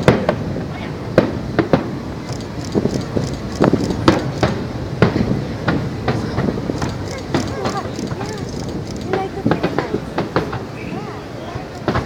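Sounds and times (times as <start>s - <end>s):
background rumble: 0.0s - 10.8s
fireworks bangs: 0.0s - 12.0s.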